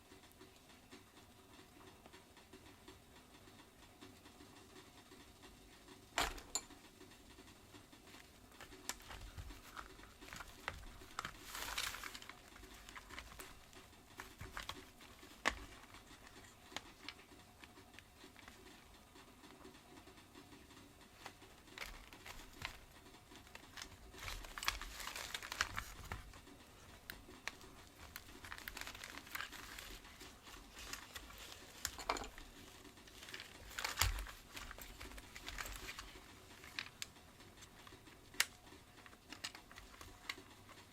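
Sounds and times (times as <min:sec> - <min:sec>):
faint clicks and taps of parts: 0:06.2 - 0:19.8, 0:20.7 - 0:40.9.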